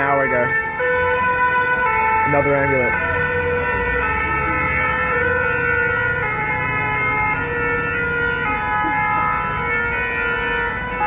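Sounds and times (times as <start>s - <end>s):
street traffic: 0.0s - 11.0s
two-tone ambulance siren: 0.0s - 11.0s.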